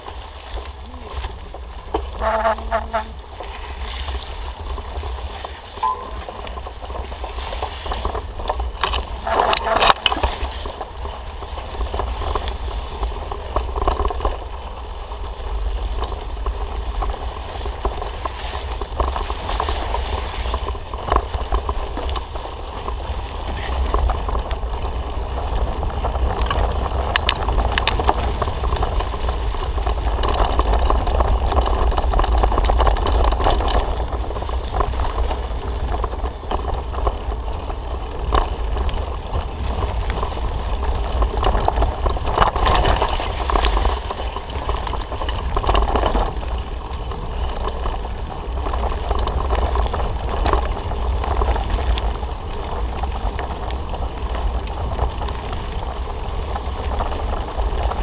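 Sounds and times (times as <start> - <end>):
bicycle rattles and knocks: 0.0 - 58.0
bicycle tyre noise on dirt: 0.0 - 58.0.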